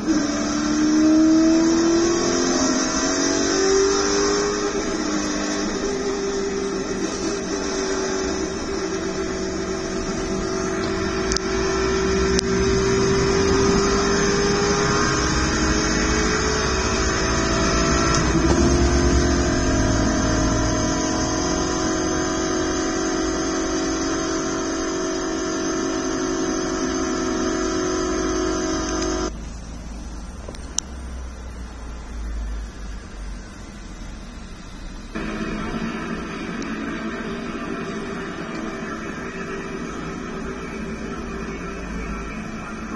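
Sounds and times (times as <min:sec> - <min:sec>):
race truck engines at full throttle: 0:00.0 - 0:42.9.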